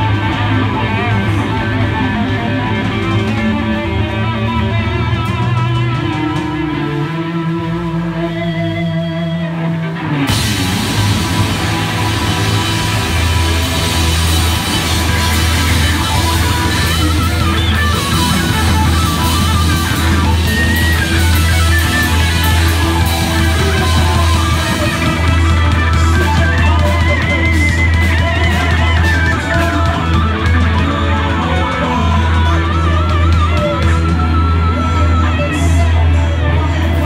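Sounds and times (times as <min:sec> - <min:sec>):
rock band playing loudly: 0:00.0 - 0:37.0
wavering lead guitar line: 0:00.0 - 0:37.0.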